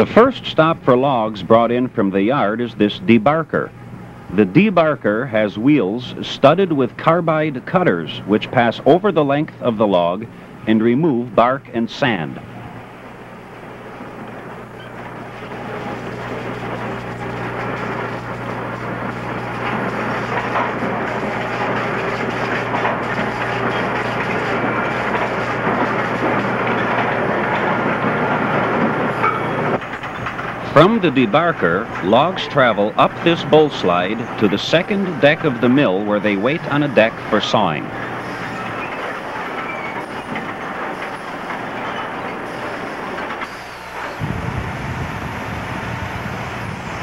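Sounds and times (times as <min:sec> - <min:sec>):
log debarker grinding: 0:00.0 - 0:47.0
low machine hum: 0:00.0 - 0:47.0.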